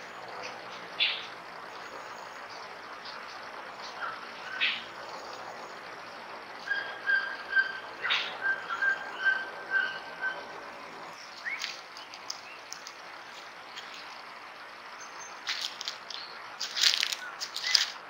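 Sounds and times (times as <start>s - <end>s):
forest background hiss: 0.0s - 18.0s.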